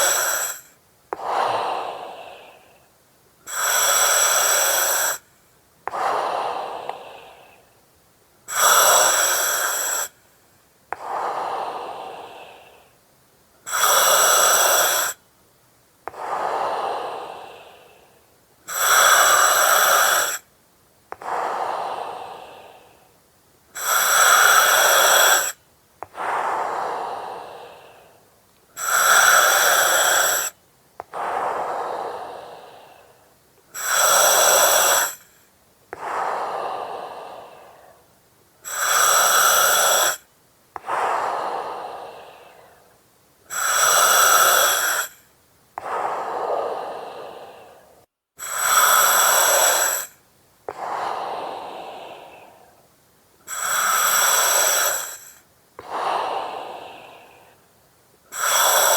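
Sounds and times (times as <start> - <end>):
breathing through oxygen mask: 0.0 - 2.8, 3.4 - 5.3, 5.9 - 7.6, 8.5 - 10.2, 13.6 - 15.2, 16.1 - 20.5, 21.2 - 23.1, 23.7 - 42.9, 43.5 - 52.8, 53.4 - 57.6, 58.3 - 58.9.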